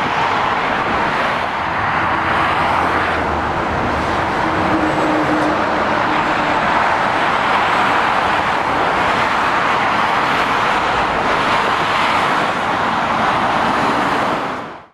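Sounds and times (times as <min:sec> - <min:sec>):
road traffic rushing: 0:00.0 - 0:14.9.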